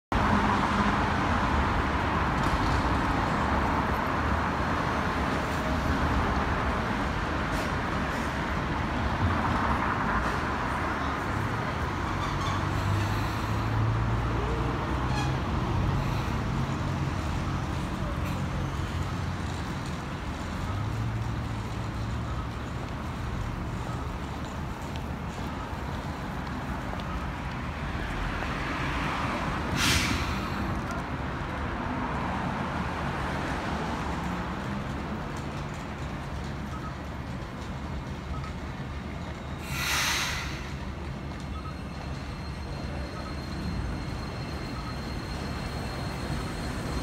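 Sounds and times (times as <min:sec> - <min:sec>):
city traffic noise: 0:00.0 - 0:47.0
tram approaching: 0:00.1 - 0:47.0.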